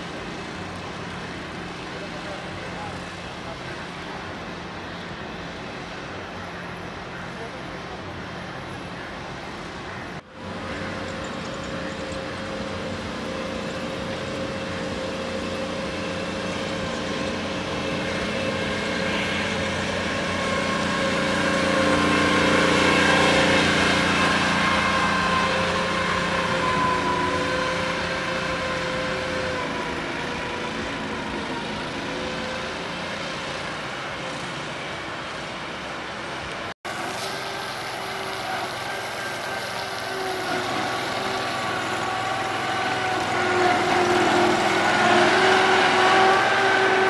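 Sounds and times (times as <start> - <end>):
water-removal roller engine drone: 0.0 - 47.0.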